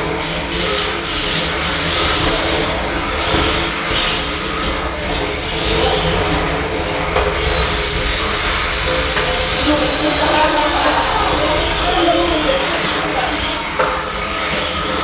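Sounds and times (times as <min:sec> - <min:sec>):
robot drive motors whining: 0:00.0 - 0:15.0
robots scraping across floor: 0:00.0 - 0:15.0.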